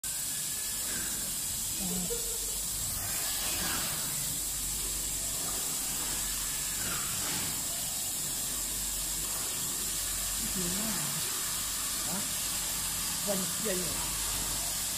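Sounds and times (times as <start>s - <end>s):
air blowing hiss: 0.0s - 14.9s
laser cutter cutting wood sheet: 0.0s - 14.9s.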